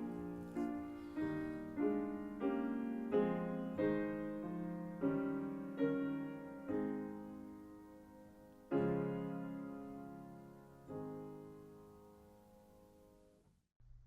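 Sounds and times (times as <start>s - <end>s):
soft slow piano chords: 0.0s - 13.5s.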